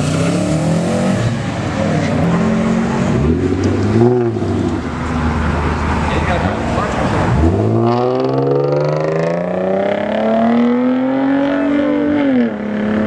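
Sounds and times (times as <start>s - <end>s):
car engine revving: 0.0s - 13.0s
engines running steadily: 1.0s - 13.0s.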